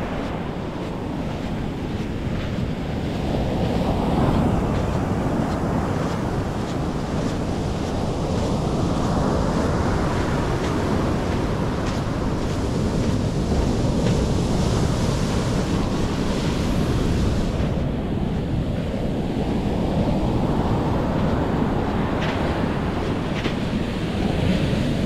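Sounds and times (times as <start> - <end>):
surf washing onto beach: 0.0 - 25.0
wind buffeting microphone: 0.0 - 25.0.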